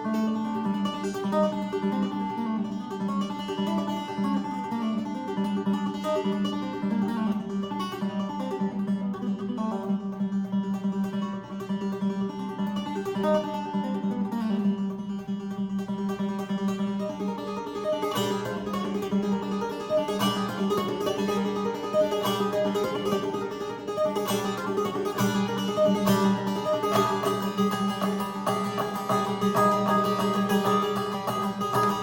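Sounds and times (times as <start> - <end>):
plucked-string instrumental melody: 0.0 - 32.0.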